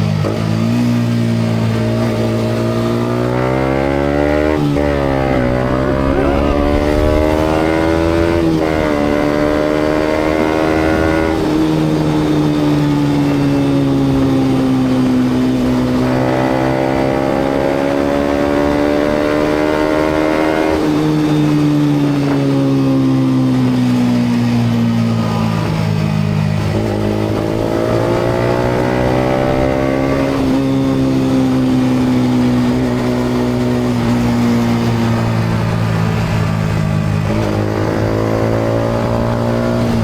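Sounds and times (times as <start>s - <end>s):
motorcycle engine revving: 0.0s - 40.0s
road and wind noise: 0.0s - 40.0s.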